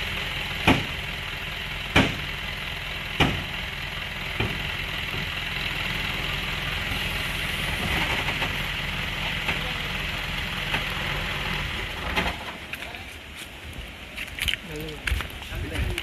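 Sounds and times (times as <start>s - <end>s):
diesel truck engine idling: 0.0s - 15.8s.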